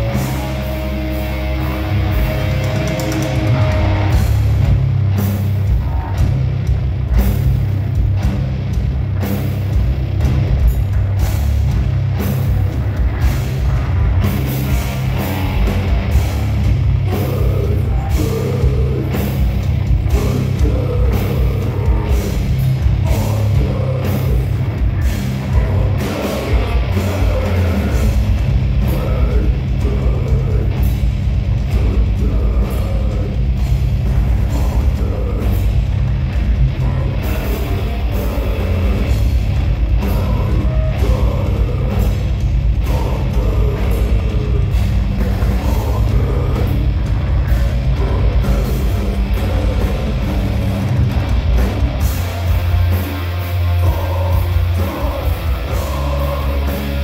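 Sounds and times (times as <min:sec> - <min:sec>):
drum and cymbal hits: 0:00.0 - 0:57.0
heavy rock band playing live: 0:00.0 - 0:57.0.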